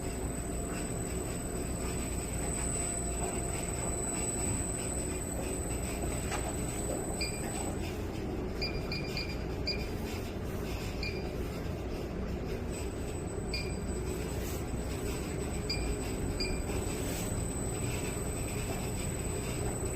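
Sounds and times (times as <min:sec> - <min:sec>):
washing machine low rumble: 0:00.0 - 0:19.9.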